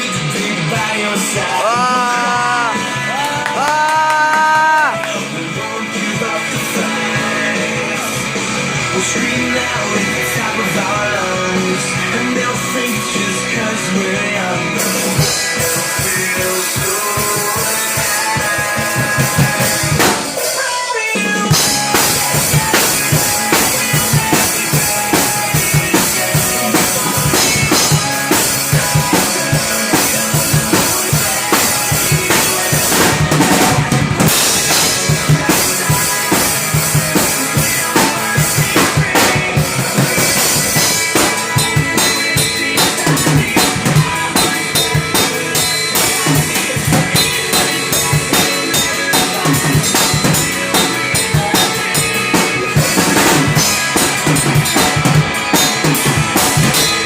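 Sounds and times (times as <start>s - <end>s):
drum kit playing: 0.0s - 57.0s
recorded pop-rock song: 0.0s - 57.0s.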